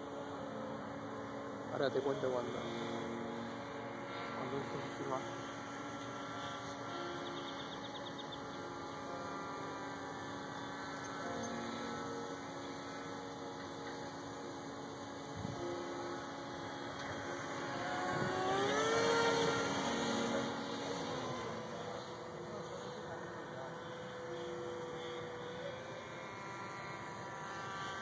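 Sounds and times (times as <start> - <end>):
model plane motor whine: 0.0 - 28.0.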